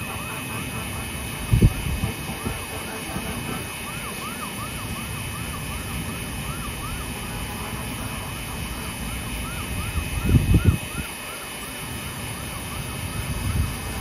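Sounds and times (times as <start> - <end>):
distant emergency siren: 0.0 - 14.0.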